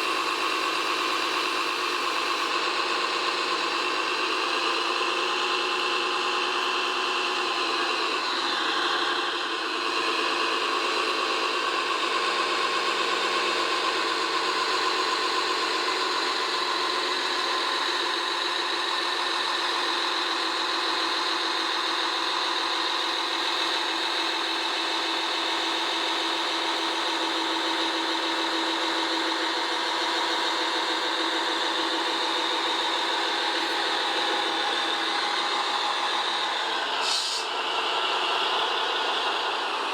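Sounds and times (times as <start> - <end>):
toy truck engine running with rattle: 0.0 - 39.9.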